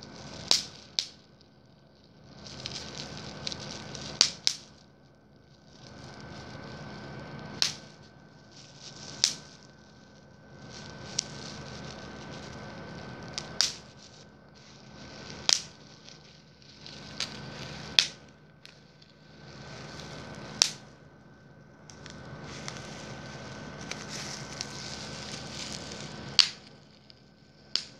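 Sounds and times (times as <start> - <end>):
bubble wrap popping: 0.0 - 1.3, 2.1 - 4.8, 5.4 - 27.9
plastic sheet crinkling: 2.3 - 4.8, 5.5 - 27.9.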